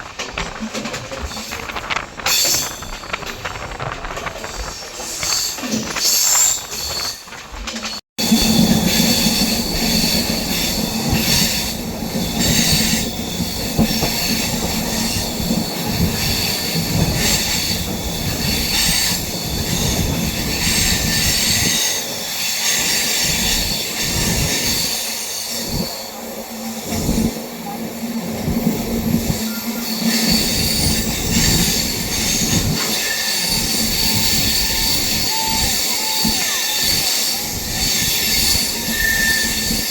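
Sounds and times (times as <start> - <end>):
train rail noise: 0.0 - 39.9.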